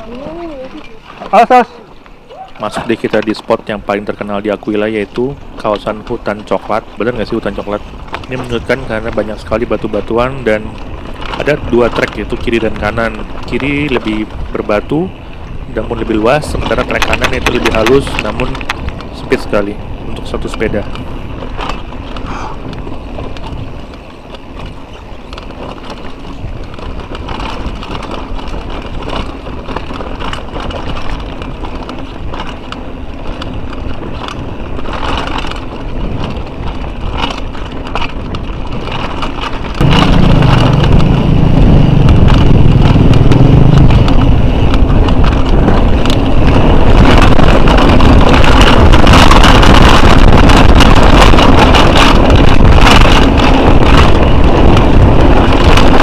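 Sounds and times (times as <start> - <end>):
mountain bike rattling and clanking: 0.0 - 56.0
tyre and wind noise: 0.0 - 56.0
deep rumble: 1.6 - 56.0.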